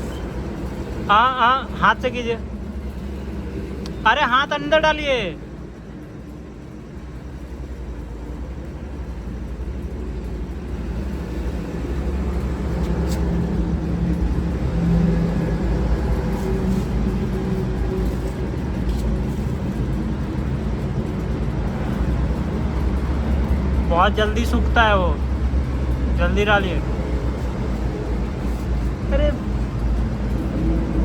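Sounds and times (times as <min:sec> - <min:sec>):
motor vehicle engine rumbling: 0:00.0 - 0:31.0.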